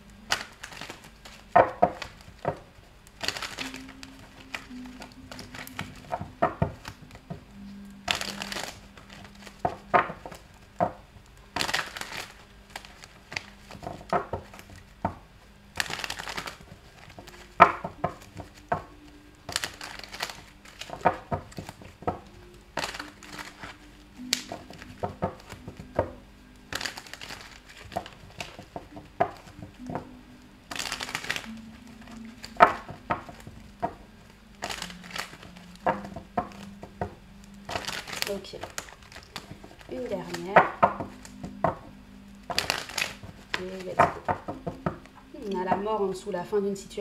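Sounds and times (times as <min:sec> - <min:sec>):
cards riffle shuffling: 0:00.0 - 0:45.5
cards clicking and tapping: 0:00.0 - 0:46.0.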